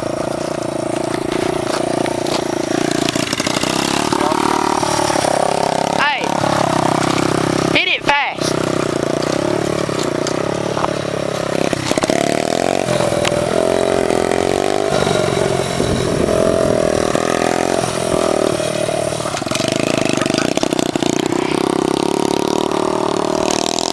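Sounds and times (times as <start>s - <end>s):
pit bike engine revving: 0.0s - 23.9s.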